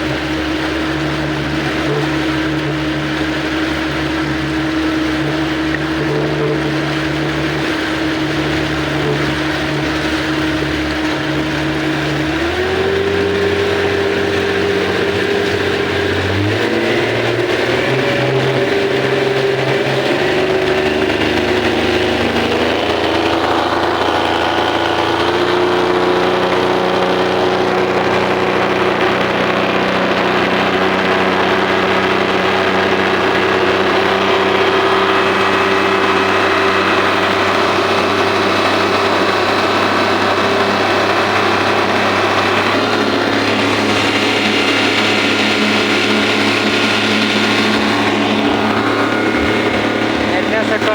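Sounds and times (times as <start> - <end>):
speedboat engine: 0.0 - 50.9.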